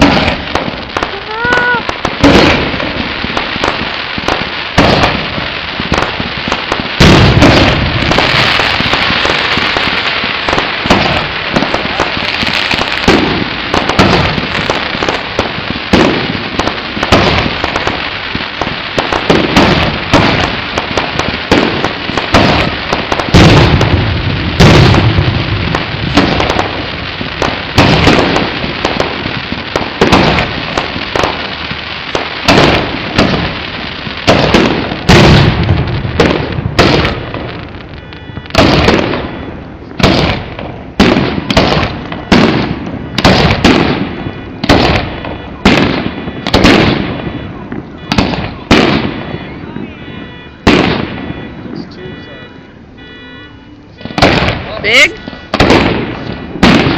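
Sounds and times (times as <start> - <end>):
fireworks bangs and crackling: 0.0 - 56.9
heavy firework booms: 0.0 - 56.9.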